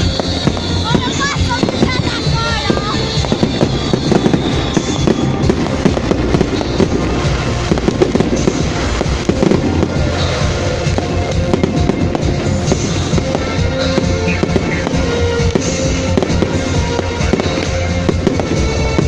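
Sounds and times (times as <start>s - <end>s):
fireworks bangs and crackling: 0.0s - 19.0s
music playing: 0.0s - 19.0s.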